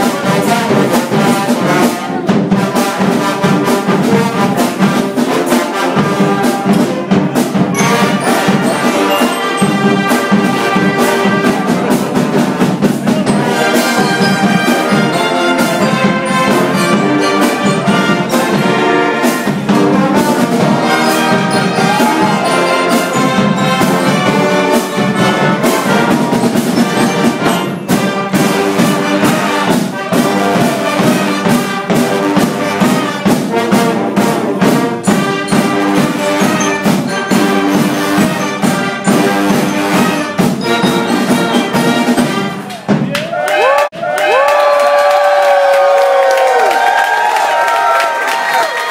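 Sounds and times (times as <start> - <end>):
drum hits: 0.0 - 44.1
brass band playing: 0.0 - 48.9.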